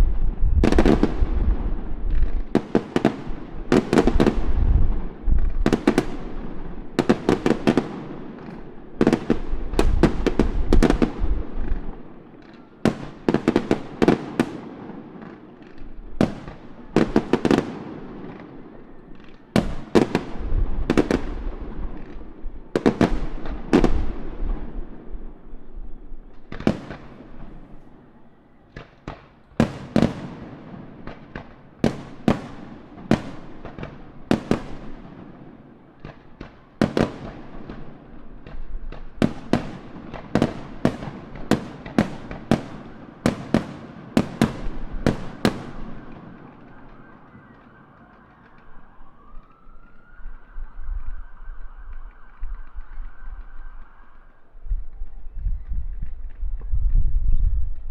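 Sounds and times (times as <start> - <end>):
fireworks bursting with echo: 0.0 - 57.9.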